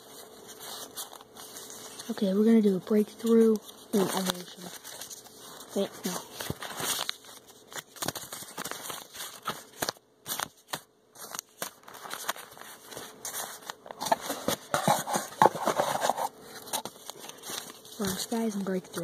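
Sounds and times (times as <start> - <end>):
paper and cardboard rustling: 0.0 - 19.0.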